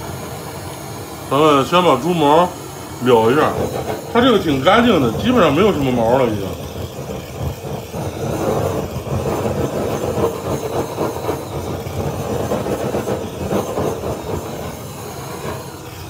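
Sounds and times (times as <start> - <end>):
blowtorch flame hissing: 0.0 - 16.0.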